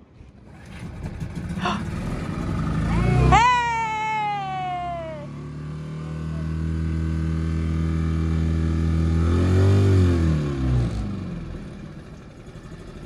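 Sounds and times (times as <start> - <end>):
outboard motor running: 0.2 - 13.0.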